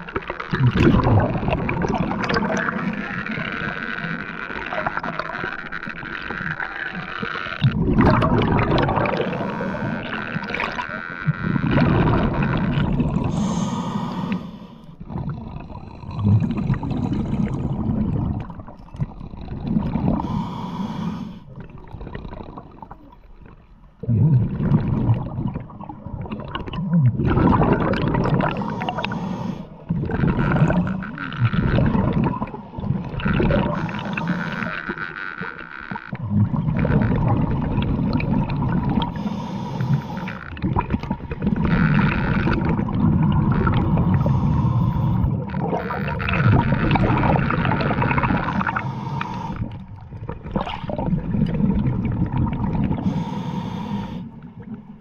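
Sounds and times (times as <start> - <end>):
muffled underwater gurgling: 0.0 - 55.0.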